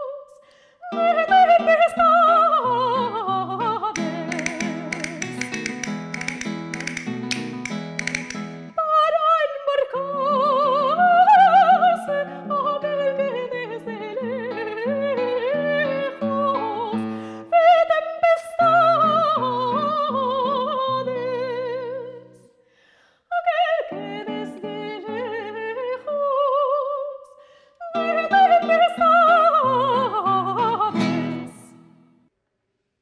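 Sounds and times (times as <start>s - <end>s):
soprano singing with vibrato: 0.0s - 5.9s, 8.8s - 22.4s, 23.3s - 31.8s
plucked classical guitar: 0.9s - 8.8s, 9.6s - 22.4s, 23.8s - 26.2s, 27.9s - 32.1s.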